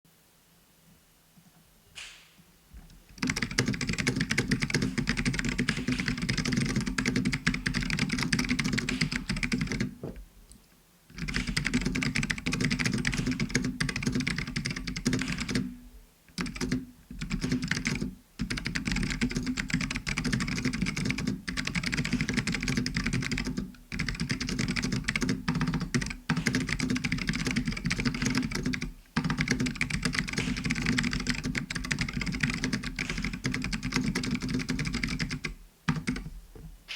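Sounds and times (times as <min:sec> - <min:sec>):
clicky mechanical keyboard typing: 0:03.2 - 0:09.9, 0:11.1 - 0:36.3.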